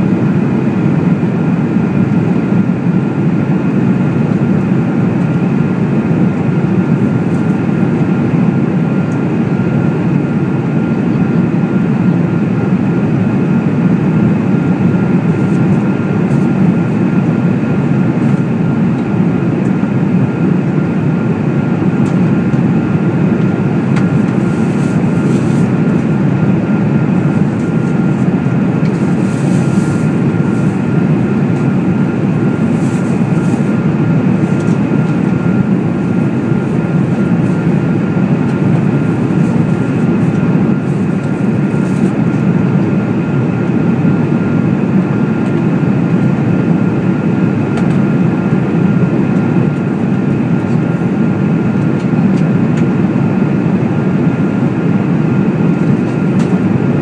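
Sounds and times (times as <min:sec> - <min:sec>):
airplane cabin rushing hum: 0:00.0 - 0:57.0
faint steady whine: 0:00.0 - 0:57.0.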